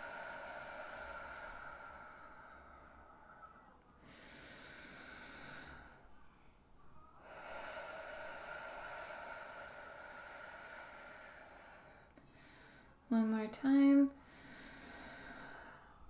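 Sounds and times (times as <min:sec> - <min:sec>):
woman breathing slowly: 0:00.0 - 0:13.1, 0:14.2 - 0:16.0.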